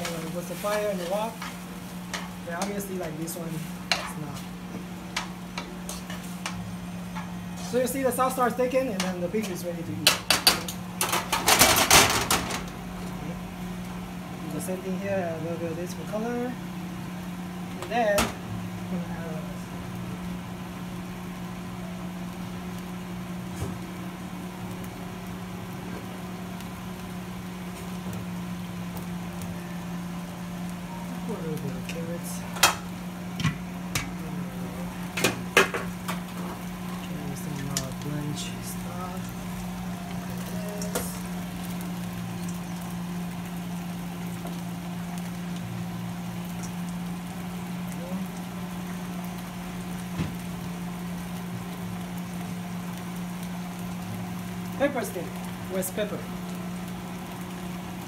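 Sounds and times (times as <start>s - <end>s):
meat and peppers sizzling in a wok: 0.0s - 58.0s
motor hum: 0.0s - 58.0s.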